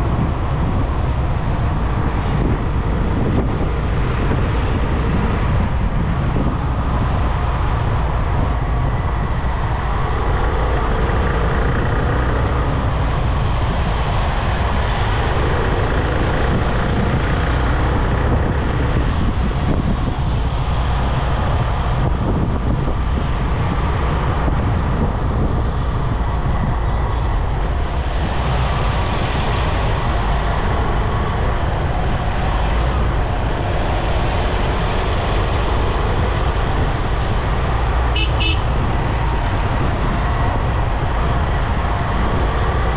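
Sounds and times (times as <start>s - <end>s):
car driving on highway: 0.0s - 42.9s
wind: 0.0s - 42.9s.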